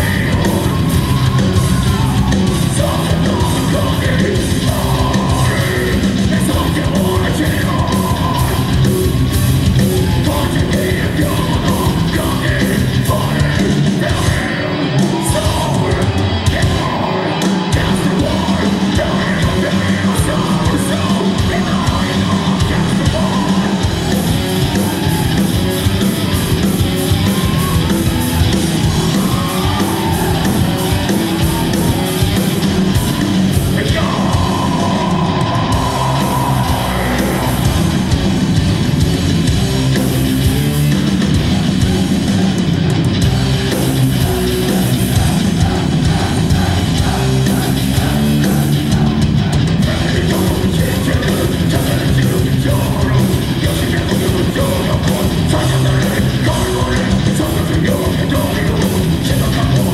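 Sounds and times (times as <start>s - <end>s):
vocalist singing: 0.0s - 39.0s, 39.8s - 59.9s
bass guitar: 0.0s - 59.9s
electric guitars: 0.0s - 59.9s
fast drums: 0.0s - 59.9s.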